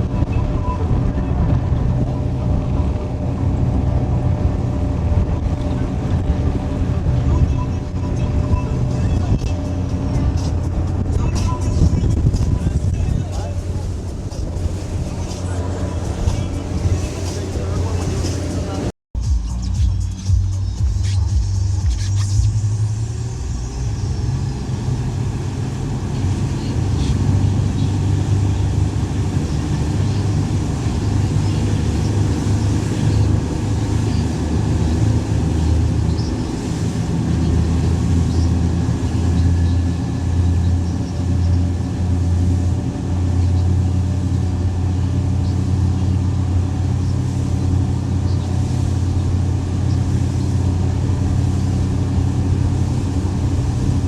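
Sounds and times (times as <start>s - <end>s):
outboard motor droning: 0.0s - 18.9s, 21.5s - 54.0s.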